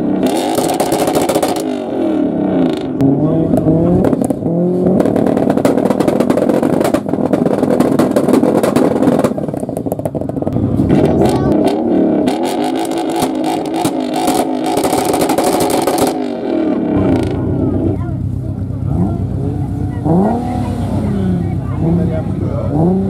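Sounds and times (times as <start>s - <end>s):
car engine revving: 0.0s - 23.0s
rotary engine blipping: 0.0s - 23.0s.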